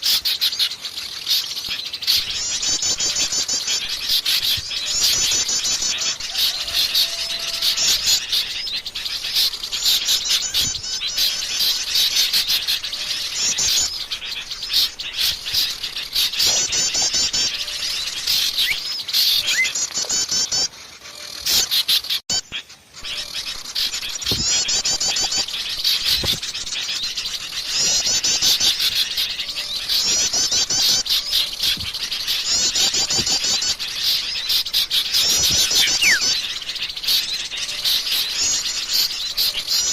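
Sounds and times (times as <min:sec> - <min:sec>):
chorus of songbirds chirping: 0:00.0 - 0:39.9.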